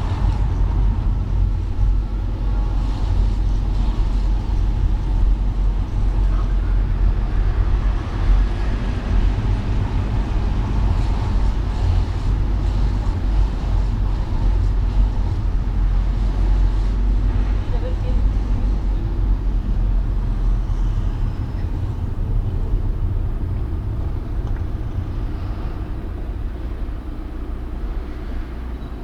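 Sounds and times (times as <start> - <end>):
car engine and road rumble: 0.0 - 29.0
rain: 0.0 - 29.0
tyres hissing on wet road: 0.0 - 29.0.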